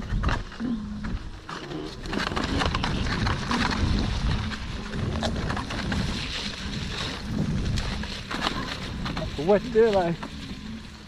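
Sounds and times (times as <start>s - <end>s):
tyres crackling on wet ground: 0.0s - 11.0s
wind rumbling on microphone: 0.0s - 11.0s.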